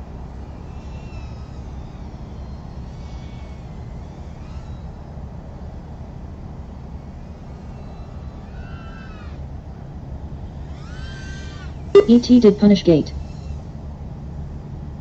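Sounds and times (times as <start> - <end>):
drone motors whining: 0.0 - 14.2.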